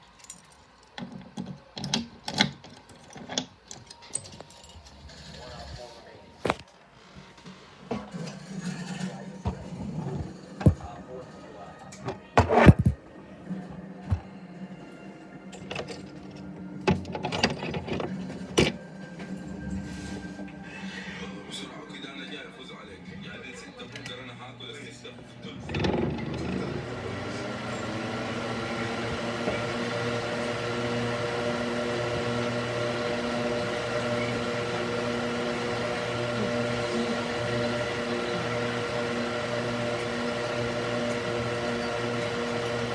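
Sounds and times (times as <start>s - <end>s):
electric fan humming: 7.8s - 42.9s.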